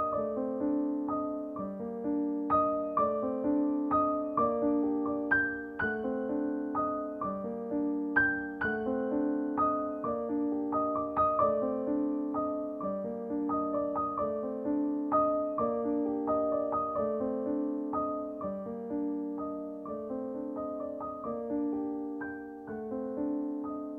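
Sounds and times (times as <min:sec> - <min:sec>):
background piano music: 0:00.0 - 0:23.9.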